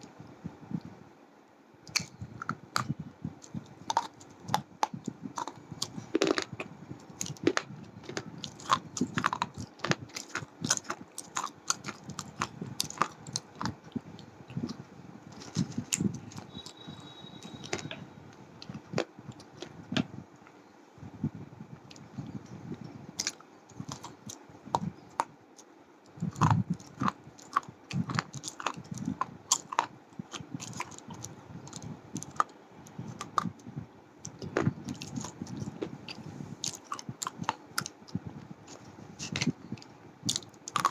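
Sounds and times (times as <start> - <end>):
person chewing hard pencils: 1.9 - 18.0, 18.6 - 19.8, 21.9 - 40.9.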